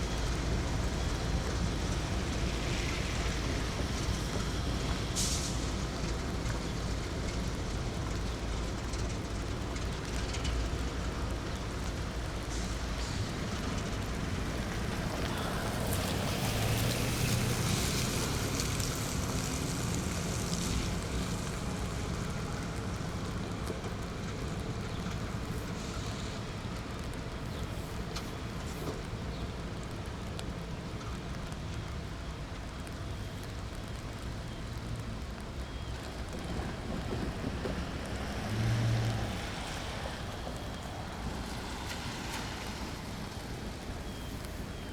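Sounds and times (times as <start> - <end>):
train rolling past: 0.0 - 44.9.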